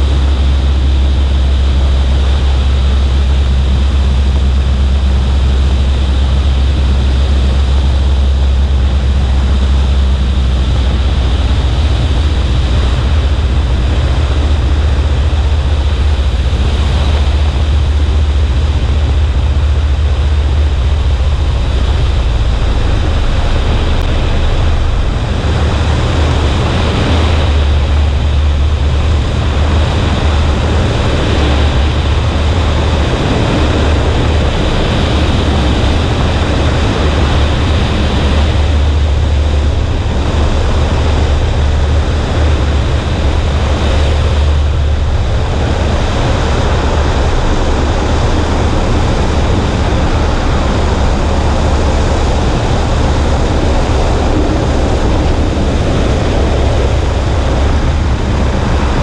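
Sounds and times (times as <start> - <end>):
aircraft engine drone: 0.0 - 59.0
wind rush on microphone: 0.0 - 59.0.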